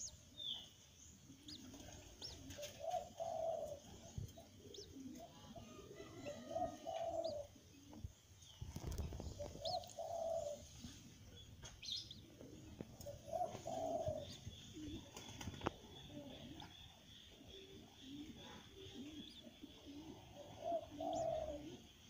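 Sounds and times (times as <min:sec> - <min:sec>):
dove cooing: 0:00.0 - 0:08.1, 0:08.7 - 0:11.0, 0:11.8 - 0:22.0
small bird chirping: 0:00.0 - 0:22.0.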